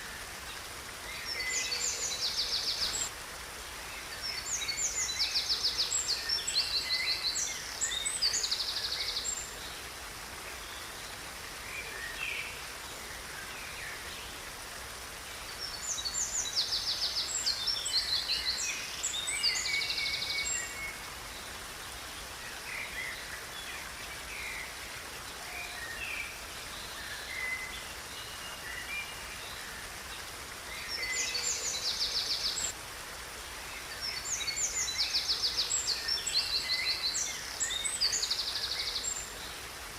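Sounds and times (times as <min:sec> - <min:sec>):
outdoor ambient hiss: 0:00.0 - 0:39.9.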